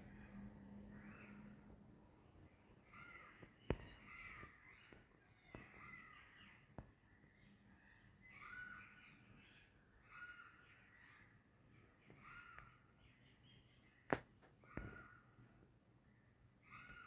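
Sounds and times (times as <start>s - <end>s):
harsh bird calls: 0.0s - 17.0s.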